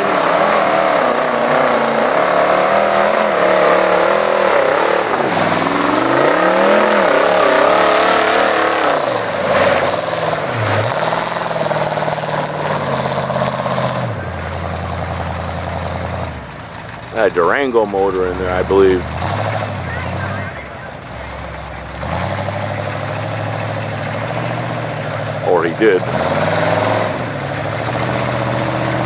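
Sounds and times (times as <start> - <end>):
truck engine revving: 0.0 - 29.0.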